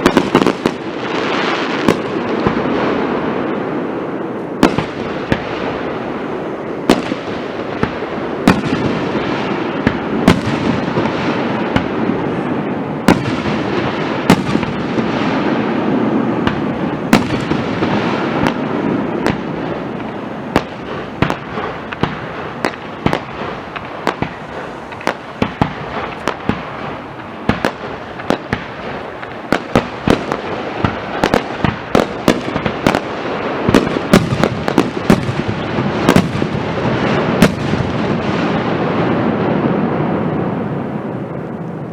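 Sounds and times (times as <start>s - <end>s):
firework bangs: 0.0s - 41.9s
firework crackling: 0.0s - 41.9s.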